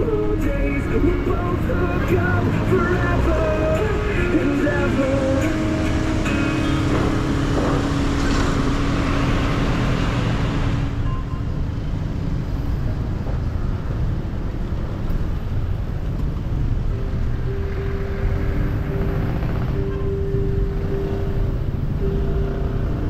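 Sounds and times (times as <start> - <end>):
motorcycle engine rumble: 0.0 - 23.0
road and wind noise: 0.0 - 23.0.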